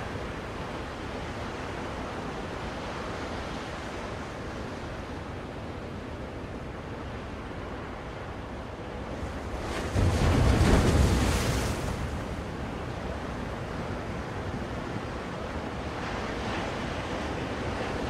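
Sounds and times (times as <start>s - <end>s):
ocean waves washing on shore: 0.0s - 18.0s.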